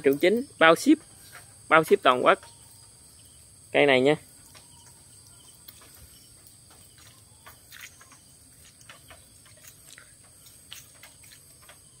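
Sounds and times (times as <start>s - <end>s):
high-pitched insect chirring: 0.0s - 12.0s.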